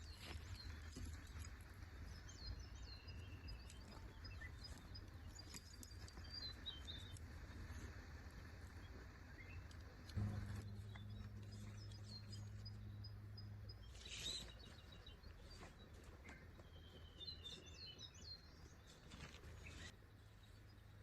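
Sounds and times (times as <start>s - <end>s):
low steady hum: 0.0s - 21.0s
low steady rumble: 0.0s - 21.0s
small birds chirping: 0.0s - 21.0s.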